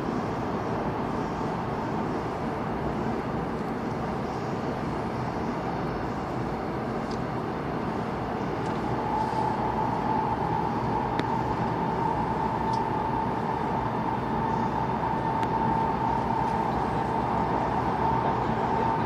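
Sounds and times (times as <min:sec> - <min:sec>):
steady whine: 0:00.0 - 0:19.0
train wheels rumbling on rail: 0:00.0 - 0:19.0.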